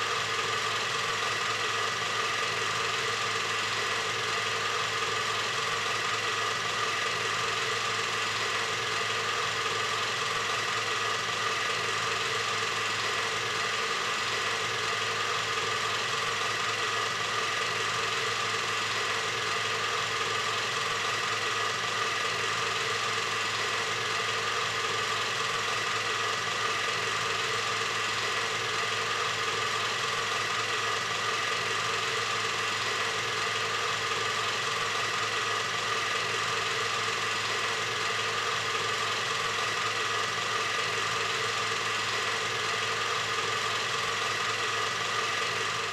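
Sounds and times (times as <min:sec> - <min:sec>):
film projector whirring and rattling: 0:00.0 - 0:45.9.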